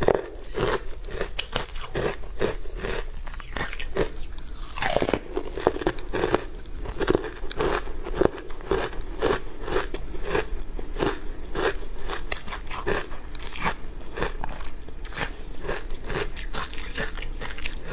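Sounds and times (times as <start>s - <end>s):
person chewing crunchy food: 0.0s - 17.9s.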